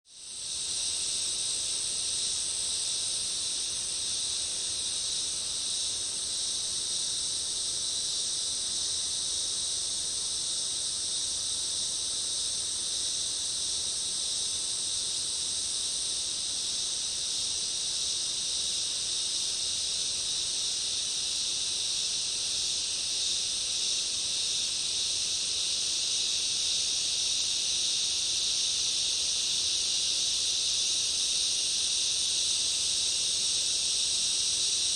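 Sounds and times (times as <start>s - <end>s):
cicadas and crickets droning: 0.0s - 34.9s.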